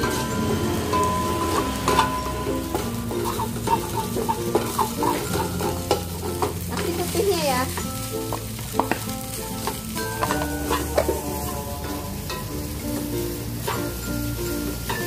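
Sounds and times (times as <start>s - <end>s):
frying sizzle: 0.0s - 15.0s
spatula scraping metal wok: 0.0s - 15.0s.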